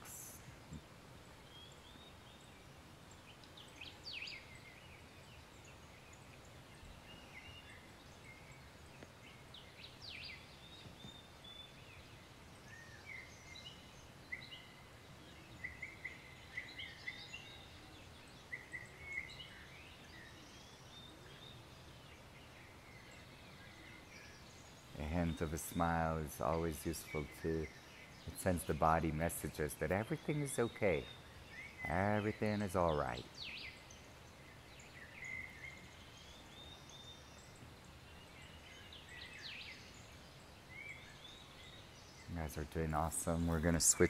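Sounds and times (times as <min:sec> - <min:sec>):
faint birds chirping: 0:00.0 - 0:44.0
low background noise: 0:00.0 - 0:44.0.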